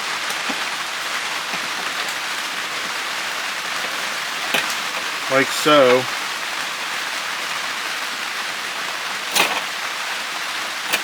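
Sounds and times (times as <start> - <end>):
rain-like hiss: 0.0 - 11.0.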